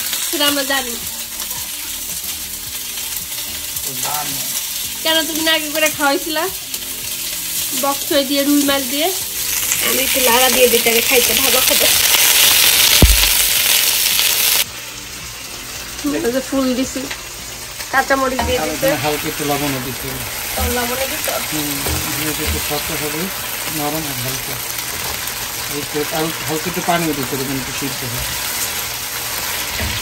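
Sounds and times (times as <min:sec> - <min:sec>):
oil sizzling in a pan: 0:00.0 - 0:30.0.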